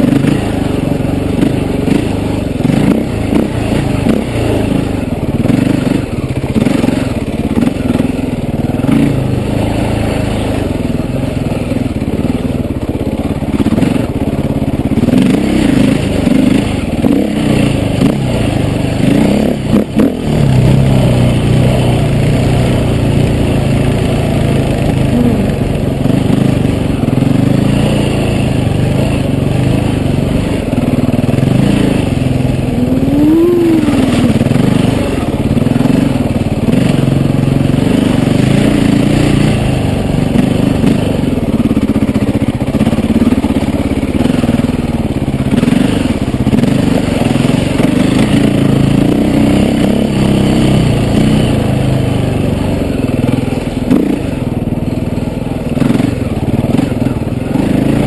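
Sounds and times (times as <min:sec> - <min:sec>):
dirt bike engine revving: 0:00.0 - 0:12.5, 0:13.2 - 0:58.0.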